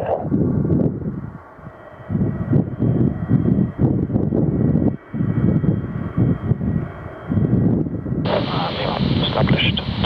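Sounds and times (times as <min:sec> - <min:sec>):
aircraft engine rumble: 0:00.0 - 0:10.0.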